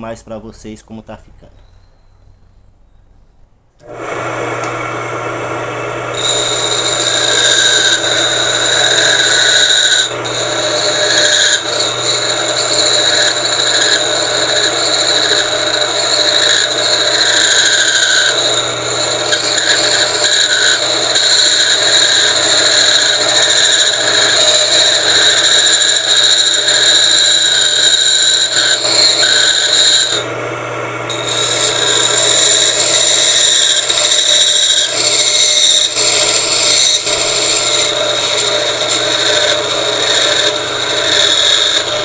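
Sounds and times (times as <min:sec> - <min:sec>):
electric motor humming: 0:03.8 - 0:42.0
tool squealing and scraping metal: 0:06.1 - 0:30.3, 0:31.1 - 0:42.0.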